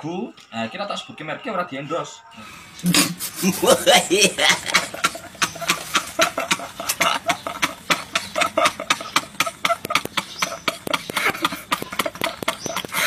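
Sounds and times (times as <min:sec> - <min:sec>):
men laughing hard: 0:02.4 - 0:13.0.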